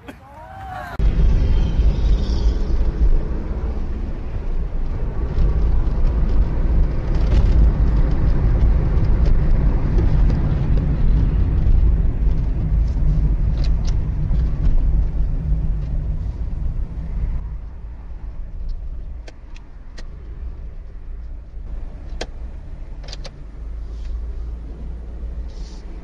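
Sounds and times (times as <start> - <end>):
car interior road rumble: 0.9 - 26.0.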